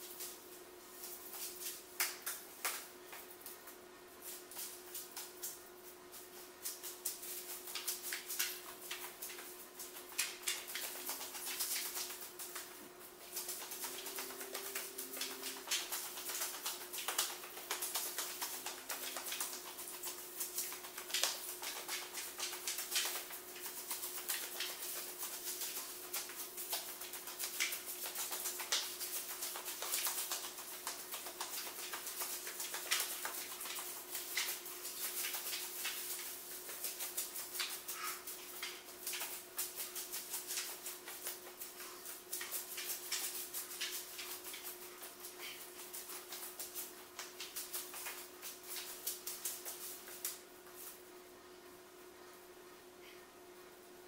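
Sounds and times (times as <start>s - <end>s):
tape crinkling and rustling: 0.0s - 51.0s.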